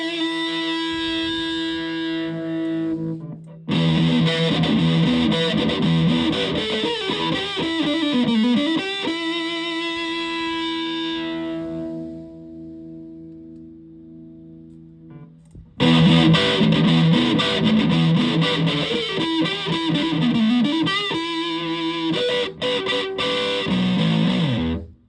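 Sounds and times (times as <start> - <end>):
fuzz electric guitar riff: 0.0 - 25.0.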